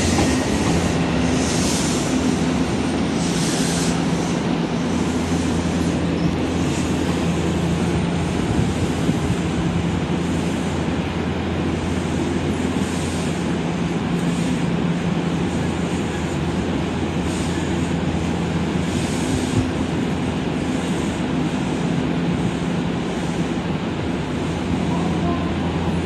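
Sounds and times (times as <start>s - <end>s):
wind-like rush: 0.0s - 24.9s
electric train equipment humming: 0.0s - 26.0s.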